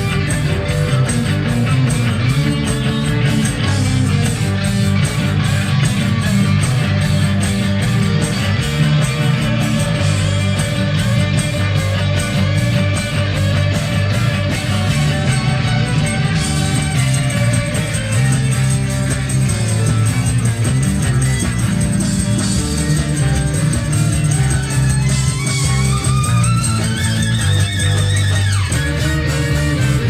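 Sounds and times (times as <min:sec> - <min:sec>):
live ska reggae band: 0:00.0 - 0:30.0.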